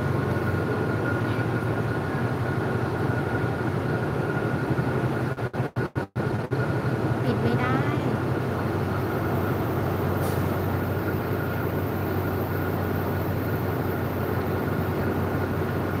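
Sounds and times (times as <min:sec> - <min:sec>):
train hum and rumble: 0:00.0 - 0:16.0.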